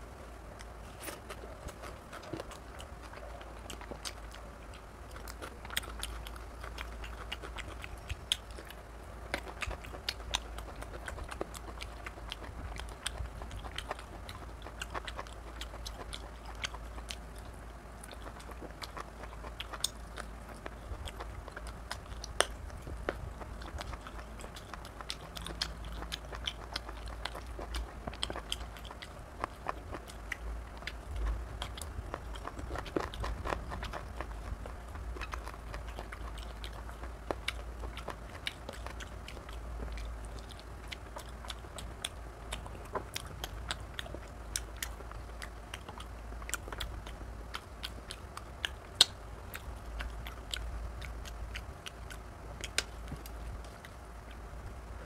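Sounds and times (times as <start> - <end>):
wet chewing: 0.0 - 55.0
lip smacks: 0.6 - 54.4.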